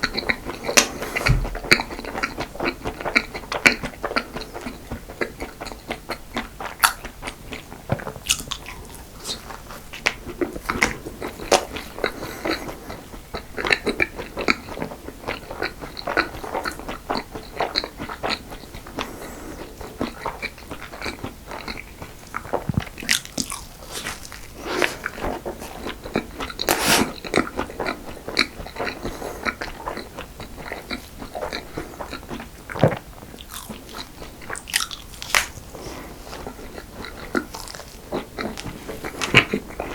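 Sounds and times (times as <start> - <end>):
crunchy pastry chewing: 0.0 - 39.9.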